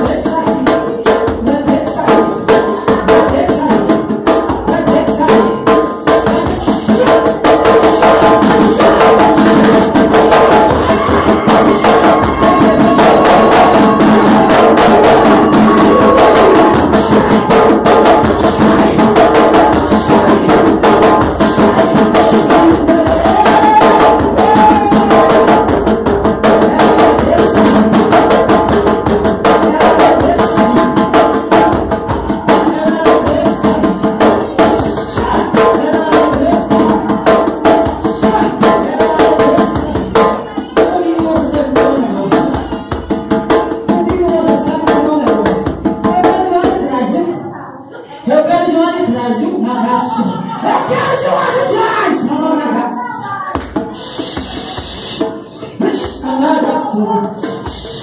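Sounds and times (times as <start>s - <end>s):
loud music with drums: 0.0s - 47.3s, 53.5s - 58.0s.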